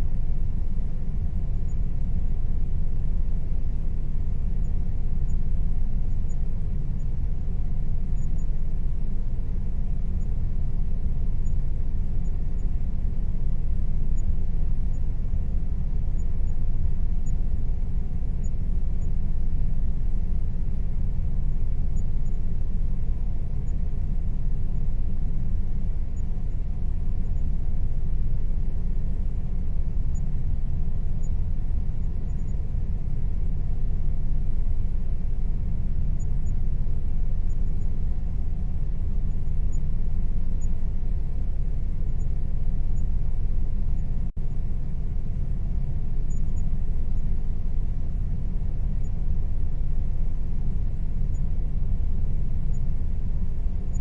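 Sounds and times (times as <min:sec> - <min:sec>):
air conditioner running: 0:00.0 - 0:54.0
faint steady hum: 0:00.0 - 0:54.0.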